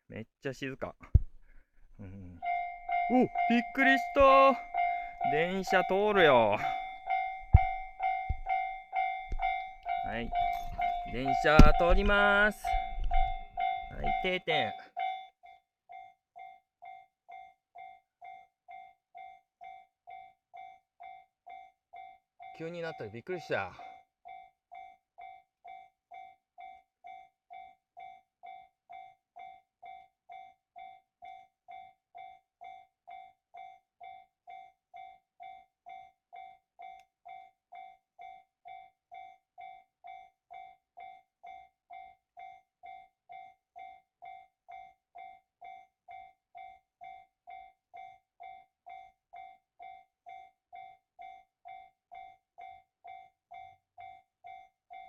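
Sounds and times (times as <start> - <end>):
electronic level crossing bell: 2.4 - 55.0.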